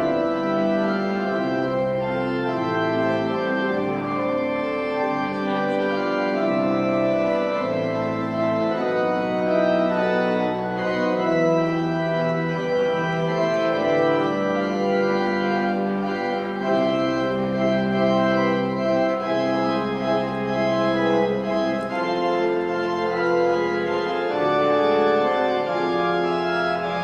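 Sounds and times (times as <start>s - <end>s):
church organ chords: 0.0s - 27.0s.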